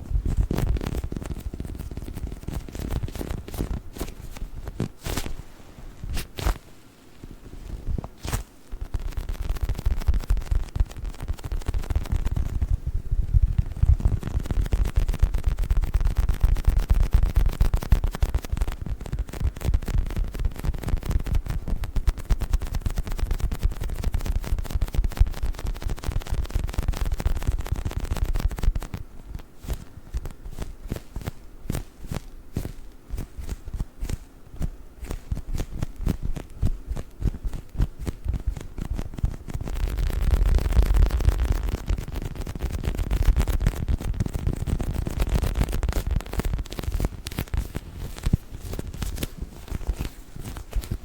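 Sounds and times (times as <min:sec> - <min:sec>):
squishy toy crackling and squishing: 0:08.1 - 0:12.7, 0:13.6 - 0:51.0.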